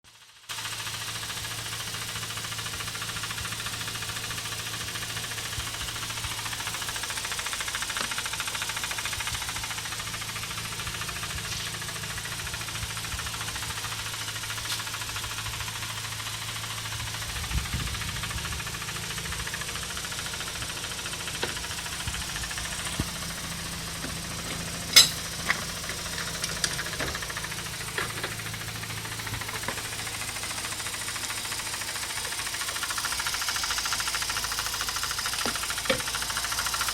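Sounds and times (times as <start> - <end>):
engine knocks and clicks: 0.1 - 36.9
rotary engine idling: 0.1 - 36.9.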